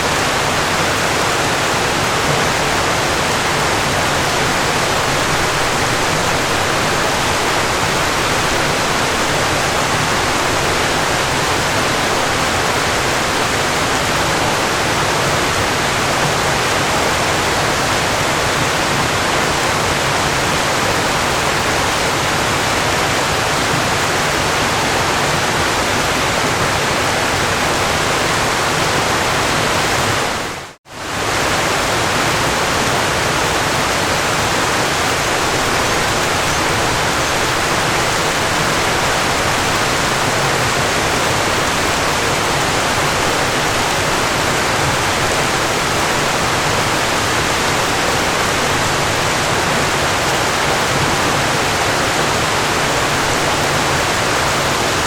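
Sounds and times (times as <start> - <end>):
rush of falling water: 0.0 - 55.0.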